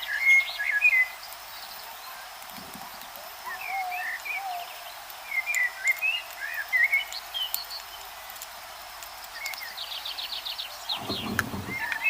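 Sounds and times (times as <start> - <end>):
birds chirping: 0.0 - 8.4, 9.2 - 12.0
steady background hiss: 0.0 - 12.0.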